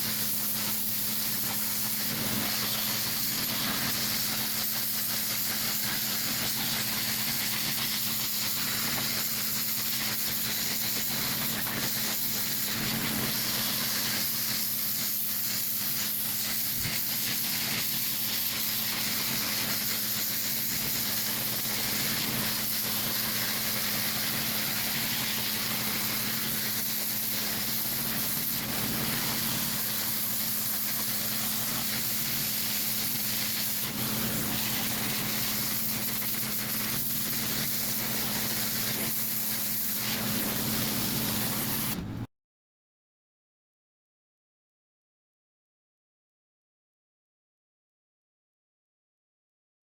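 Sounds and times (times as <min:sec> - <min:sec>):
pressure washer spraying water: 0:00.0 - 0:42.3.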